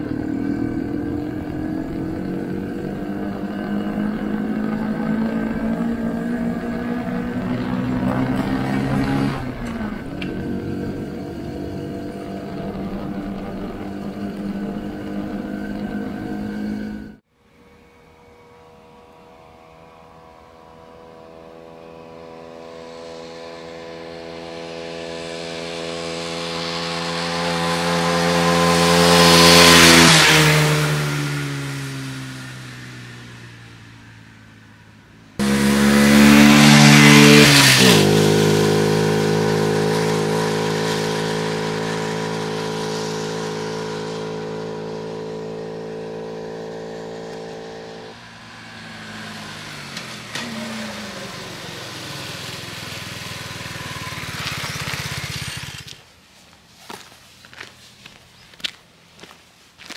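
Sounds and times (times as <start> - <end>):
moped passing at speed: 0.0 - 59.9.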